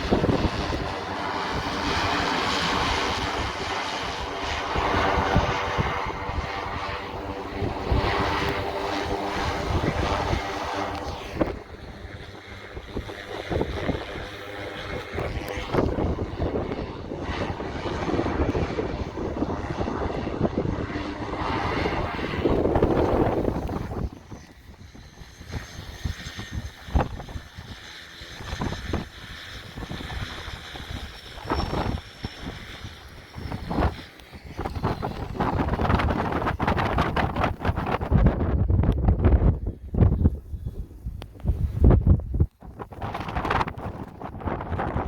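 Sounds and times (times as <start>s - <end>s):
propeller airplane engine: 0.0s - 45.0s
wind buffeting microphone: 0.0s - 45.0s.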